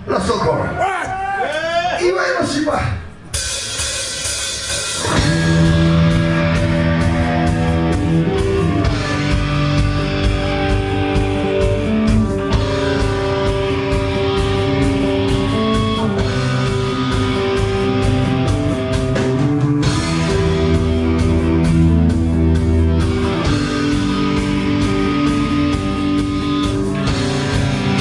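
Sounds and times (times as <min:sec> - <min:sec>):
loud rock music with guitar: 0:03.4 - 0:28.0.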